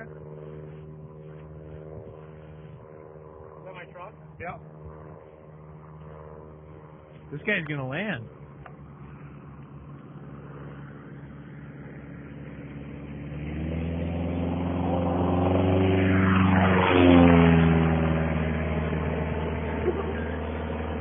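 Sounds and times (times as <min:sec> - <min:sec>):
small airplane engine passing: 0:00.0 - 0:21.0.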